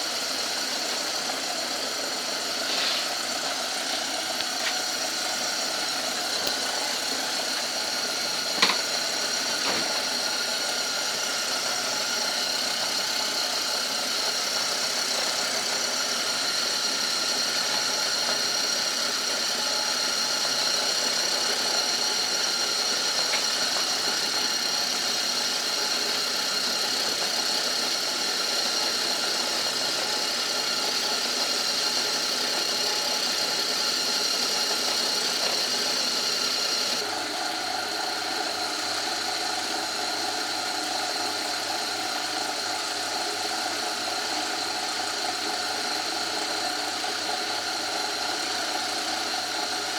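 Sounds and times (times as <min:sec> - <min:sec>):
lathe humming with high whine: 0:00.0 - 0:49.9.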